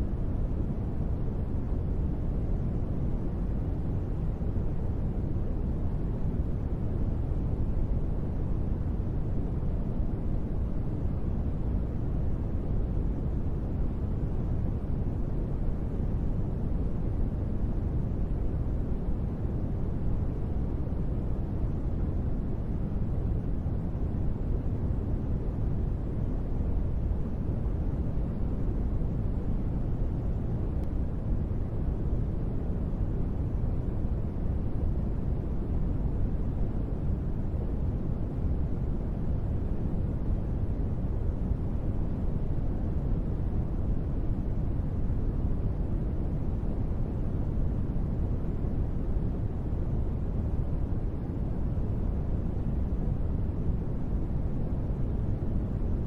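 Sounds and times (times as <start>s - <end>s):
low white noise rumble: 0.0s - 56.0s.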